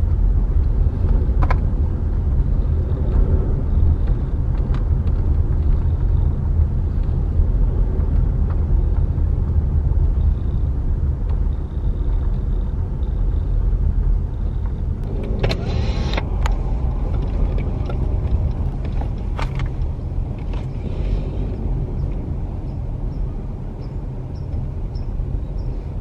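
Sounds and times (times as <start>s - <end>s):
car interior rumble: 0.0s - 26.0s.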